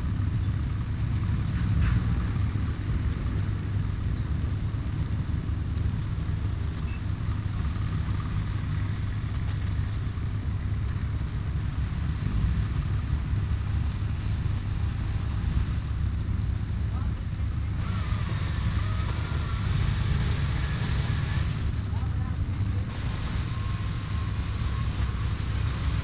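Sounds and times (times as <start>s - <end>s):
aircraft engines rumbling: 0.0s - 26.0s.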